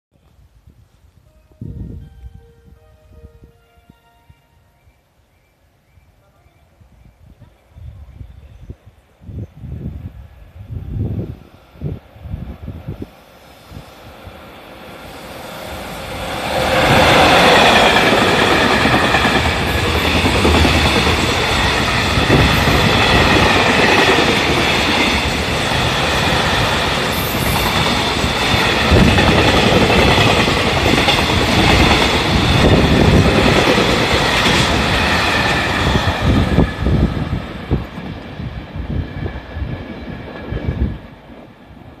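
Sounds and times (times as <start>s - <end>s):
electric locomotive whine: 1.1s - 5.5s, 7.2s - 42.0s.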